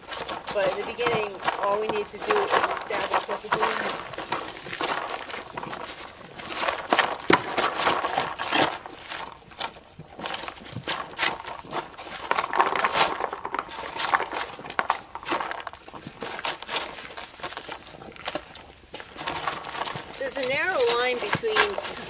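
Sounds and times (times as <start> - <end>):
horse crunching apples: 0.0 - 22.0.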